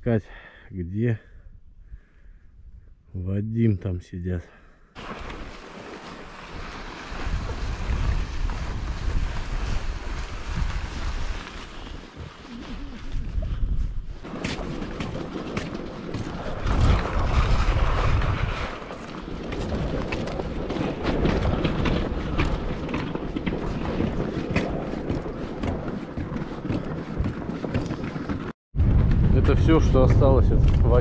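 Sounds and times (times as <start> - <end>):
wind buffeting microphone: 5.0 - 31.0.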